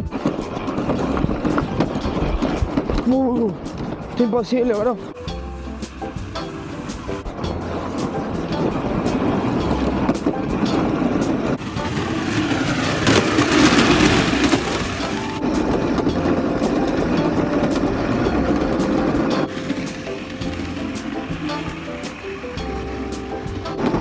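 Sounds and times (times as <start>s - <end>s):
plastic wheels rolling on concrete: 0.0s - 5.0s, 5.9s - 24.0s.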